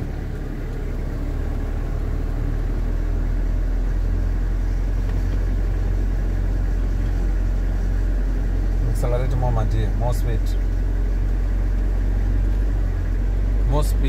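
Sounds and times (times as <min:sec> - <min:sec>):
truck engine drone inside cab: 0:00.0 - 0:14.0.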